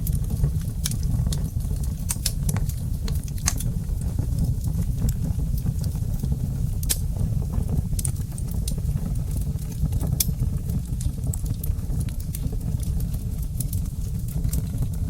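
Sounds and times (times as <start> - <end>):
fire crackling and popping: 0.0 - 15.0
fire rumbling in fireplace: 0.0 - 15.0.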